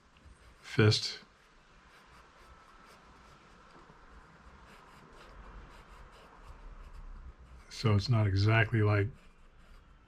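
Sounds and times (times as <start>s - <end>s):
pencil scratching on paper: 0.3s - 3.7s, 4.4s - 10.0s.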